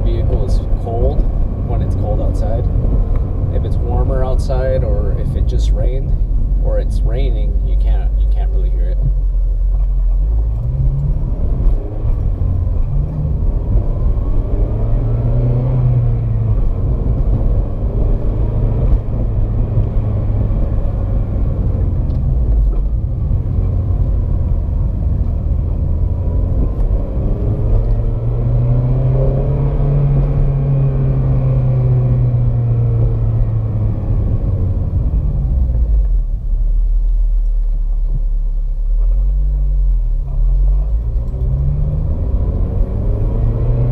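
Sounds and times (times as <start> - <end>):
car engine accelerating: 0.0 - 43.9
low road rumble: 0.0 - 43.9.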